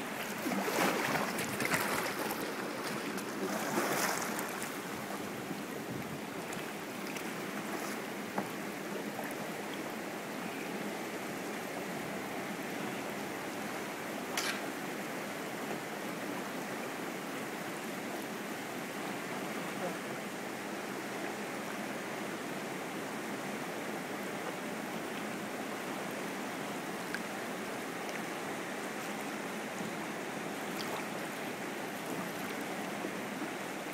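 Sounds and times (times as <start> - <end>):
water swishes: 0.0 - 16.6, 17.2 - 33.9.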